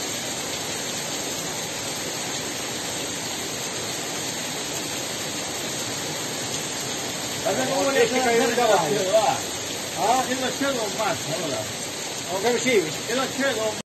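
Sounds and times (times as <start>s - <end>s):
heavy rain pouring on a street: 0.0s - 13.8s.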